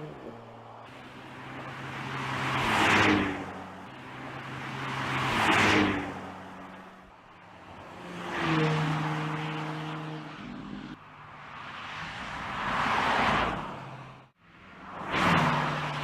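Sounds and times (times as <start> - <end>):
car engine passing by: 0.0 - 6.8, 7.7 - 16.0.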